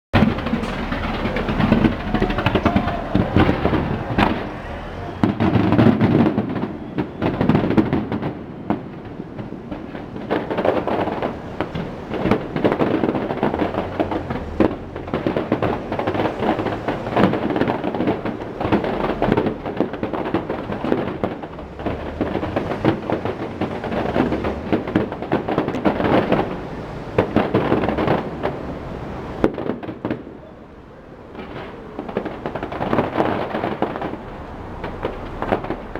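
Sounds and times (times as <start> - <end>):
firework shells bursting: 0.2 - 35.9.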